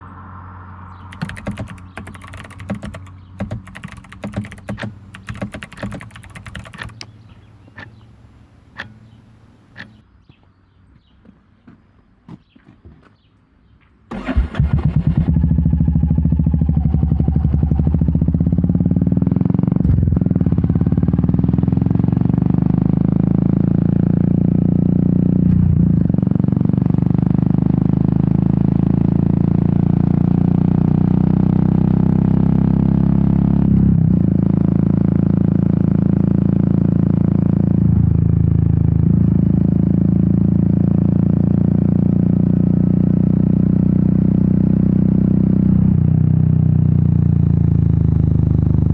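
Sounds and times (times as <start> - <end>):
motorcycle engine running: 1.2 - 10.0, 14.7 - 48.9.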